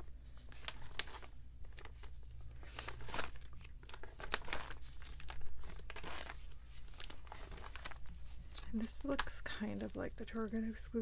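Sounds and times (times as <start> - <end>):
plastic sleeves crinkling: 0.0 - 11.0.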